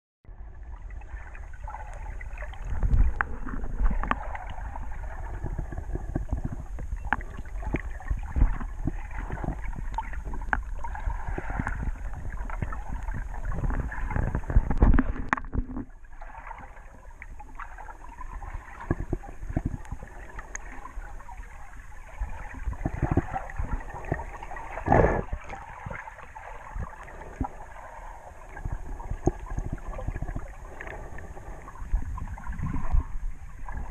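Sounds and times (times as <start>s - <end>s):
water sloshing underwater: 0.3s - 33.9s
small underwater clicks and knocks: 0.8s - 33.9s.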